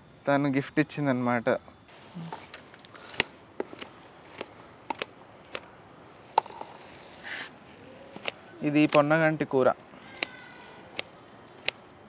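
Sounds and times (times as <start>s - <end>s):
garden scissors snipping stems: 1.9s - 12.0s.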